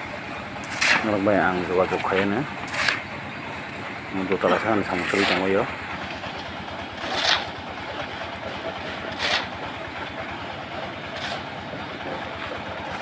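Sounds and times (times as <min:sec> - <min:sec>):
pulsing mechanical rumble: 0:00.0 - 0:13.0.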